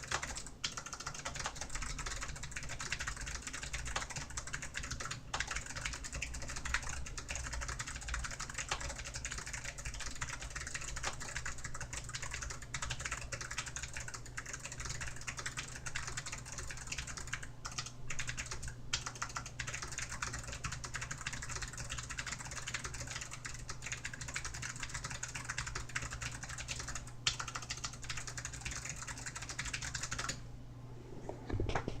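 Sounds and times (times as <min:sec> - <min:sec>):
fast typing on clicky keyboard: 0:00.0 - 0:30.4.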